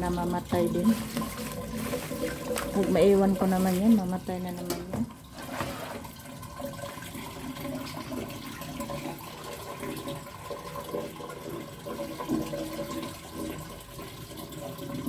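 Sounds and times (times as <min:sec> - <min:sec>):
hose water splashing into basin: 0:00.0 - 0:15.0.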